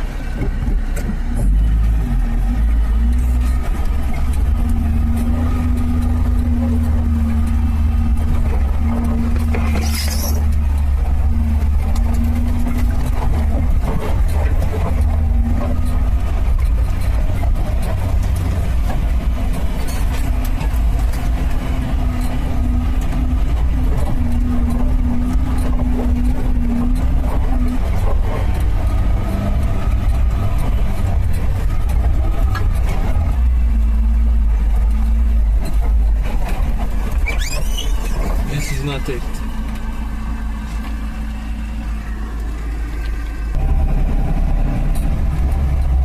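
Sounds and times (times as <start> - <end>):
road rumble: 0.0 - 46.0
small off-road car driving: 0.0 - 46.0.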